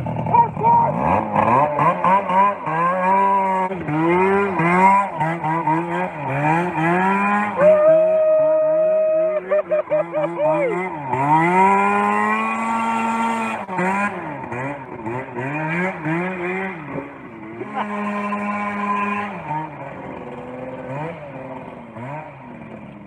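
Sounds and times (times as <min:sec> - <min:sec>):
go-kart engine revving: 0:00.0 - 0:23.0.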